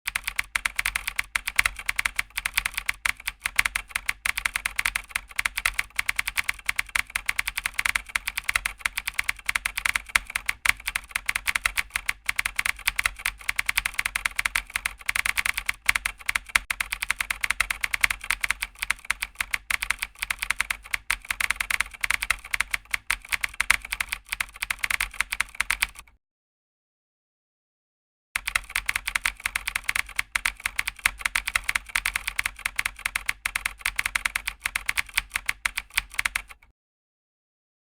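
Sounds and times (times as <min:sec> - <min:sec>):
keyboard typing: 0:00.1 - 0:26.0, 0:28.4 - 0:36.6.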